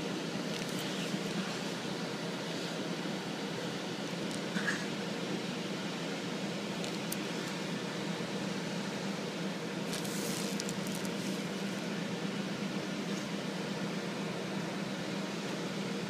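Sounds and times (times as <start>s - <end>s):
fans humming: 0.0s - 16.0s.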